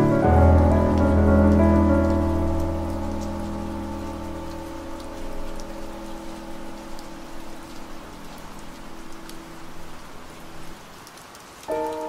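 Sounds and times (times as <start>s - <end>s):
raindrop ticks: 0.0s - 12.0s
steady rain: 0.0s - 12.0s.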